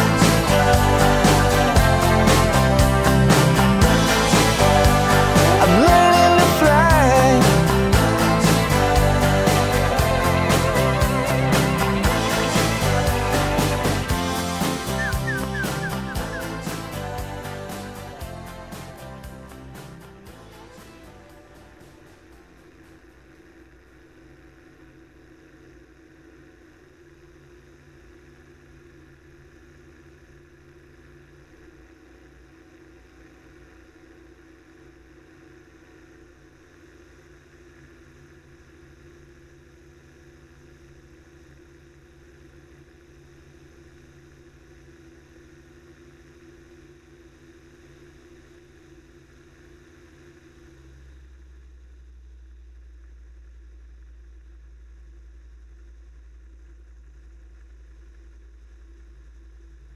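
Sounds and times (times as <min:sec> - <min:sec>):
ultralight engine and propeller droning: 0:00.0 - 0:59.9.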